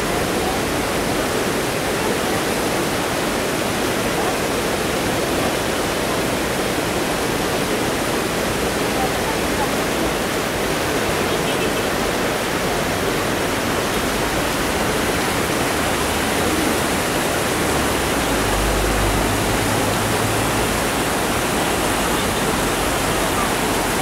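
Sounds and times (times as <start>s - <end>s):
river rushing over rocks: 0.0s - 24.0s.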